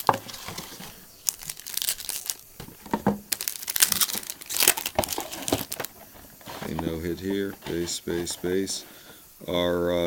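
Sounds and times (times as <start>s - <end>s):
card pack wrapper tearing and crinkling: 0.0s - 8.6s.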